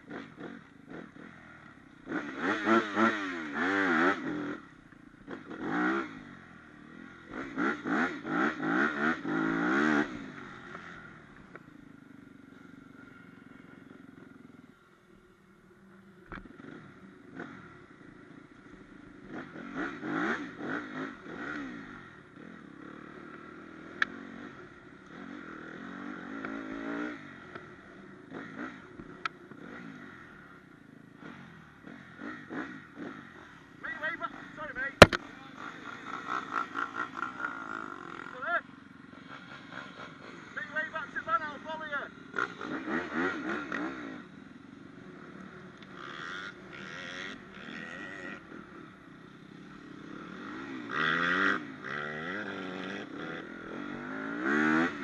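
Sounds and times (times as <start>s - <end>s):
dirt bike engine revving: 0.0s - 14.8s, 15.9s - 55.0s.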